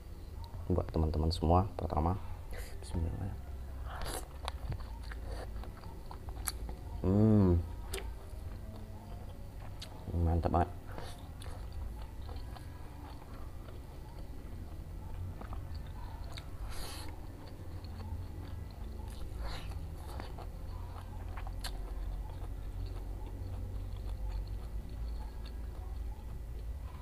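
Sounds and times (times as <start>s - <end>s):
steady low hum: 0.0s - 27.0s
chewing with wet mouth sounds: 2.6s - 27.0s.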